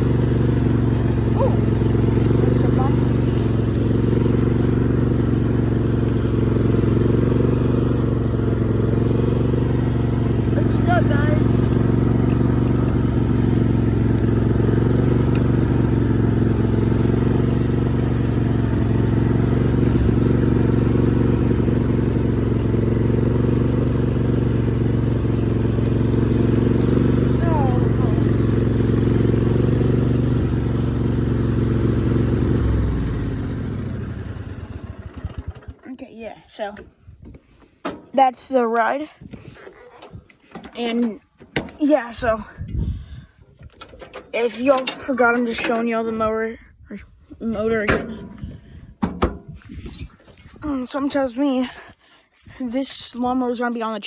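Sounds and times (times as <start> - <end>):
riding mower engine running: 0.0 - 46.5, 47.4 - 52.2.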